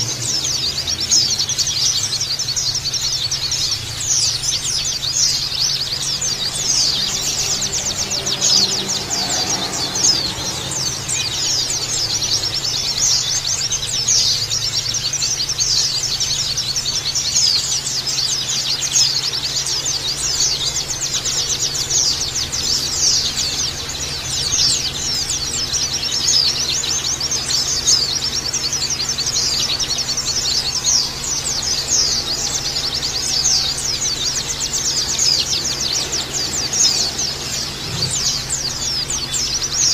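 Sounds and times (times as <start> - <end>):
chorus of birds twittering: 0.0 - 39.9.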